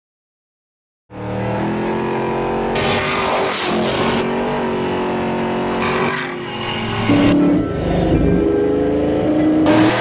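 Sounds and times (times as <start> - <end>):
car engine running: 1.1 - 10.0.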